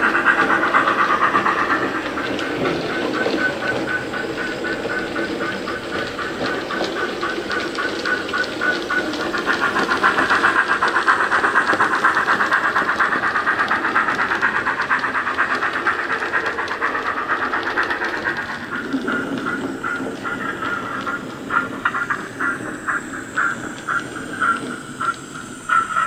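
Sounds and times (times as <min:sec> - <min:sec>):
steam exhaust chuffs from speaker: 0:00.0 - 0:26.0.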